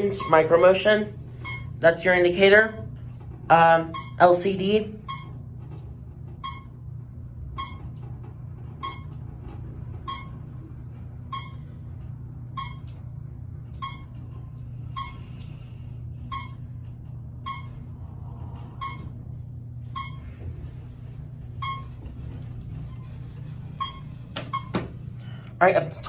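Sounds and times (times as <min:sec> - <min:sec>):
elevator car humming: 0:00.0 - 0:26.0.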